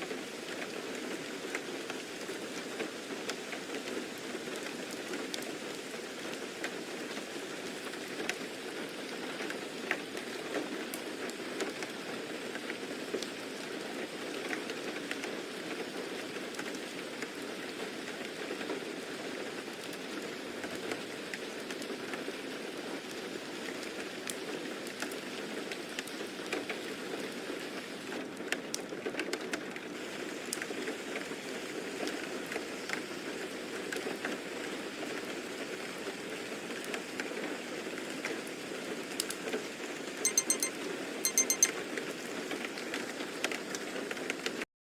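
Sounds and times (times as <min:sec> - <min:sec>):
steady rain falling: 0:00.0 - 0:40.2, 0:42.1 - 0:44.6.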